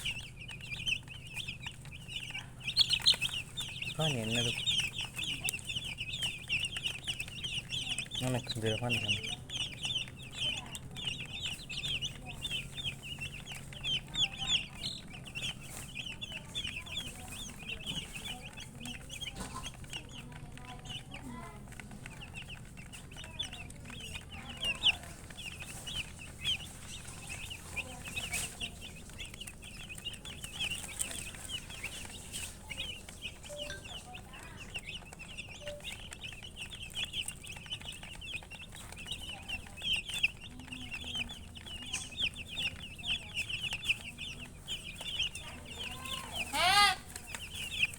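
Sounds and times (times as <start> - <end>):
baby chickens peeping: 0.0 - 47.9.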